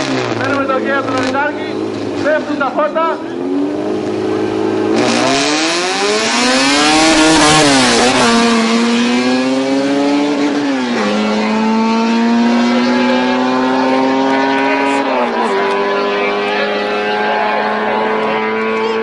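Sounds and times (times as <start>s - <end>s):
drag racing engines revving: 0.0s - 19.0s.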